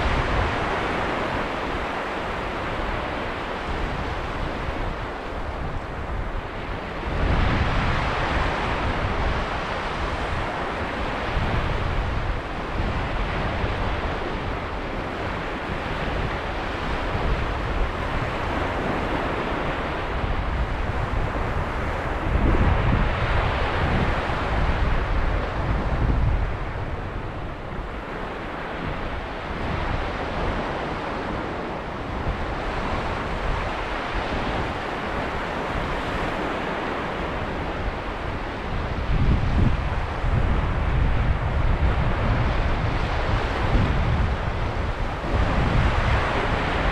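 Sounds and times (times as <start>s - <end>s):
sea waves breaking on beach: 0.0s - 46.9s
wind buffeting microphone: 0.0s - 46.9s.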